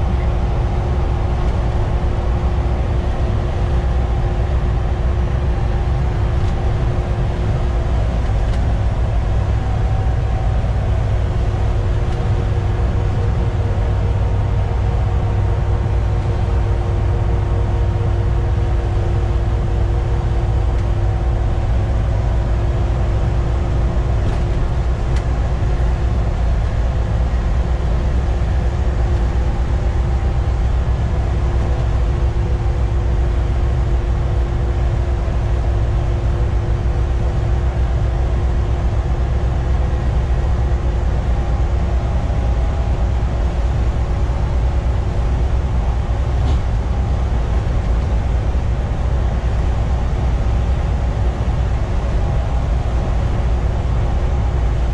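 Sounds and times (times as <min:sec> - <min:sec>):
bus diesel engine under load: 0:00.0 - 0:54.9
road rumble: 0:00.0 - 0:54.9
steady whine: 0:00.0 - 0:54.9.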